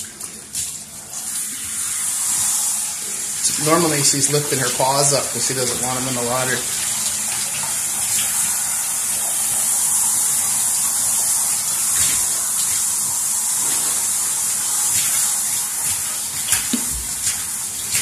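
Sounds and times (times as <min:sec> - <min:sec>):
shower sprayer spraying water: 0:00.0 - 0:18.0.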